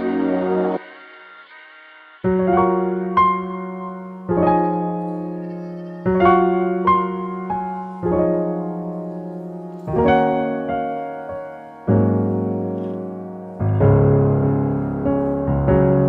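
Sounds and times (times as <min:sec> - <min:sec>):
slow piano chords: 0:00.0 - 0:01.0, 0:02.2 - 0:16.0.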